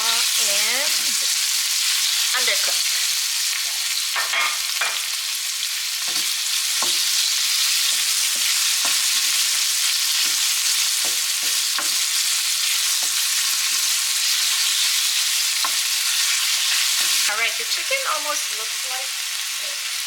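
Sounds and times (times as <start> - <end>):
chicken and onions sizzling in oil: 0.0 - 20.0.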